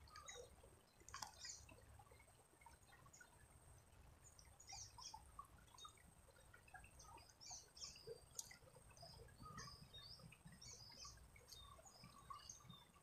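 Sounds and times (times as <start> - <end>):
faint shallow river: 0.0 - 13.0.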